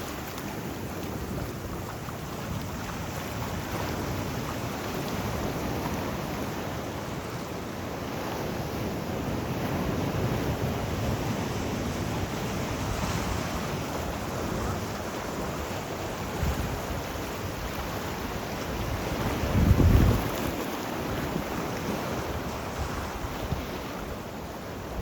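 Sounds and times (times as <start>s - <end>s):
sea waves washing: 0.0s - 25.0s.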